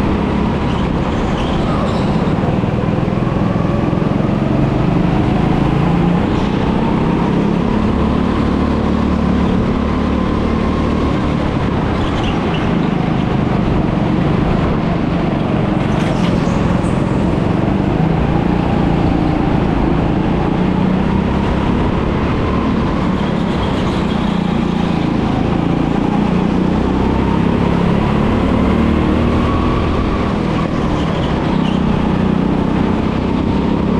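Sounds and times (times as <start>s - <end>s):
go-kart engine revving: 0.0s - 33.9s.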